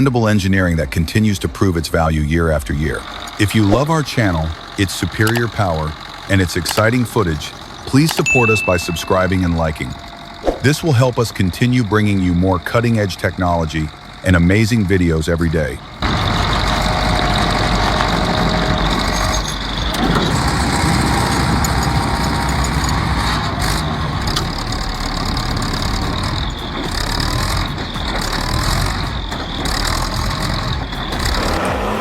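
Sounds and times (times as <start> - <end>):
heavy vehicle engine rumbling: 0.0 - 32.0.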